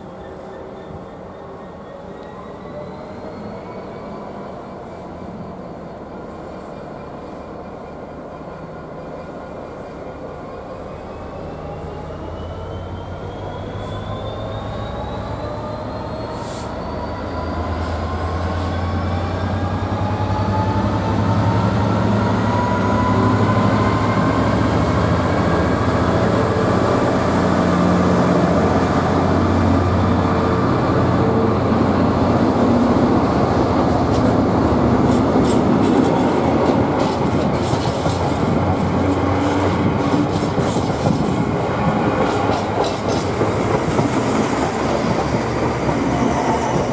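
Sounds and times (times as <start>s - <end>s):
train accelerating with rising whine: 0.0s - 46.9s.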